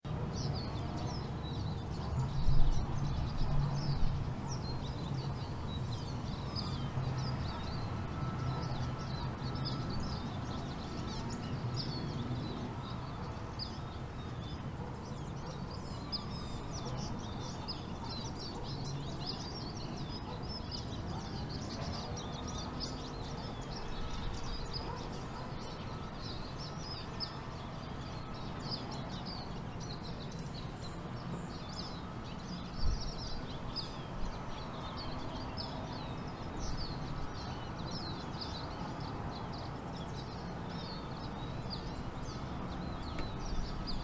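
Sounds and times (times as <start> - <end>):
small birds chirping: 0.4 - 44.0.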